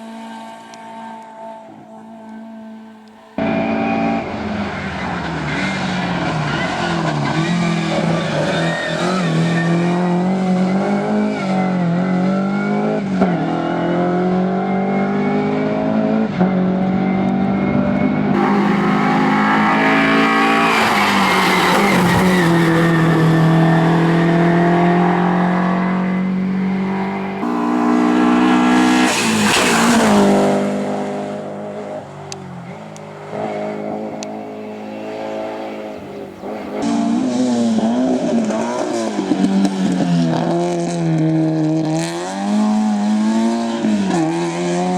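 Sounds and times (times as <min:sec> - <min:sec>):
racing car engines revving: 0:00.0 - 0:44.9
racing car passing: 0:00.0 - 0:44.9.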